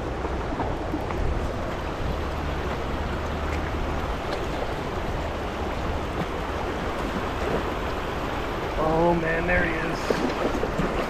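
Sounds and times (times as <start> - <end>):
river water running over stream bed: 0.0 - 11.0.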